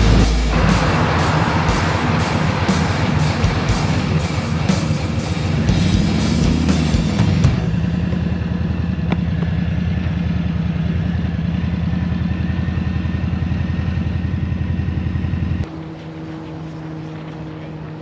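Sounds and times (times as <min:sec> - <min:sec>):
motorcycle engine running steadily: 0:00.0 - 0:15.7.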